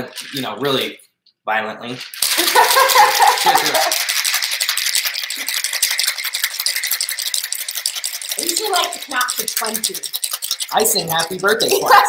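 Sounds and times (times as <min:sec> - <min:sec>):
ice rattling in cocktail shaker: 0:00.0 - 0:00.9, 0:02.0 - 0:12.0.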